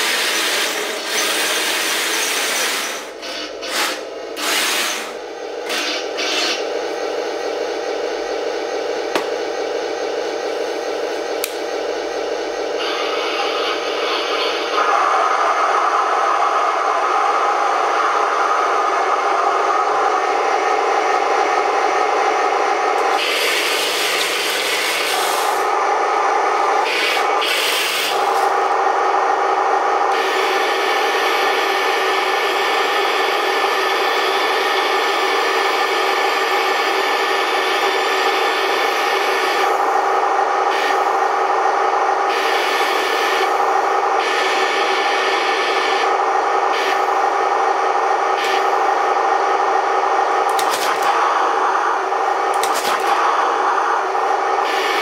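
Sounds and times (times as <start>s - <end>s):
gear motors and metal tracks whining: 0.0s - 55.0s.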